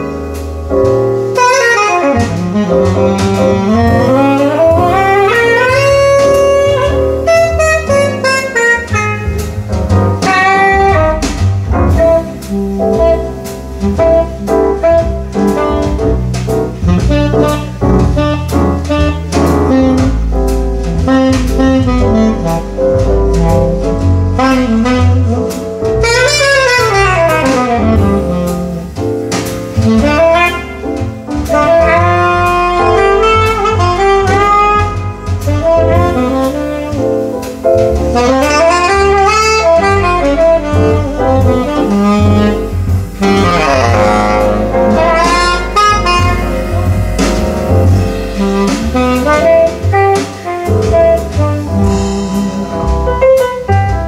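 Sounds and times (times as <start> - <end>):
double bass: 0.0 - 54.0
drums: 0.0 - 54.0
saxophone solo: 1.4 - 9.6, 10.2 - 16.2, 16.8 - 20.3, 21.0 - 53.9.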